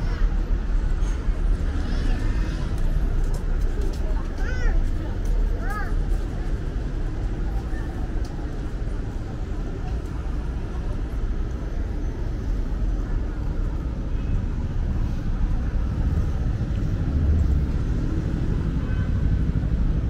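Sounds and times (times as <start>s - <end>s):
faint voices of passers-by: 0.0s - 20.0s
low rumble of traffic: 0.0s - 20.0s.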